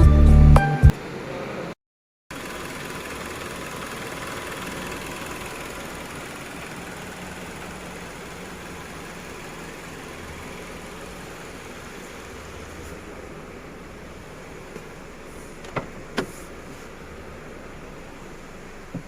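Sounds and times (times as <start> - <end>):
car engine idling: 2.3 - 19.0.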